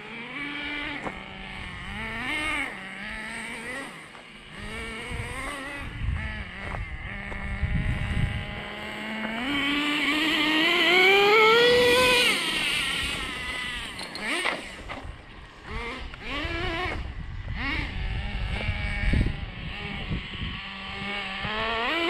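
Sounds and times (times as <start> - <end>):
electric motor and gears whining: 0.0 - 22.0.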